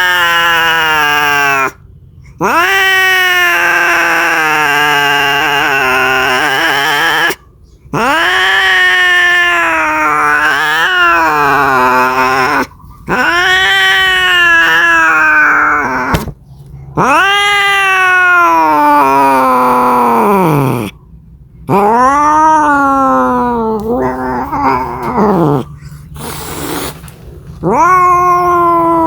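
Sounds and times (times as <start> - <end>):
cat yowling: 0.0 - 1.8, 2.4 - 16.3, 17.0 - 21.0, 21.7 - 26.9, 27.6 - 29.0.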